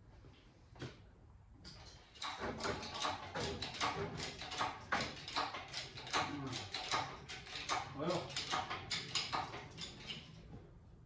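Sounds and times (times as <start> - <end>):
hydraulic hoist clunking and creaking: 1.6 - 10.5.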